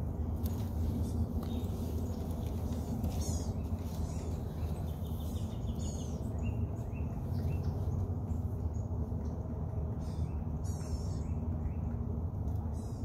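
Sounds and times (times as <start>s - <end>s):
low rumble of breeze: 0.0s - 13.0s
songbirds calling: 0.0s - 13.0s.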